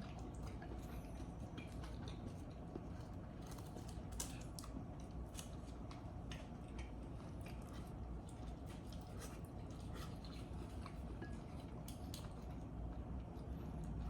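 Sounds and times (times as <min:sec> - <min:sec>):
chewing mouth noises: 0:00.0 - 0:14.0
low steady hum: 0:00.0 - 0:14.0.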